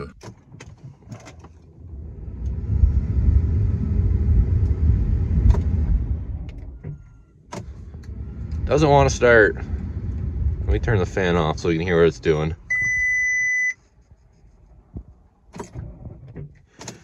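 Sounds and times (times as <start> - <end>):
engine cranking without starting: 0.0 - 13.2, 15.5 - 17.0.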